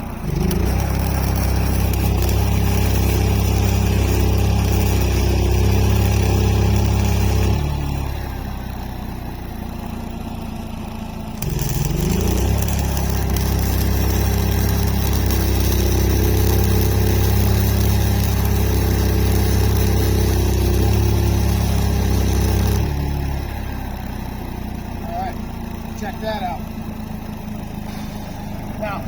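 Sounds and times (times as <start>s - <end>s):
wire welder buzzing and hissing: 0.0s - 29.0s.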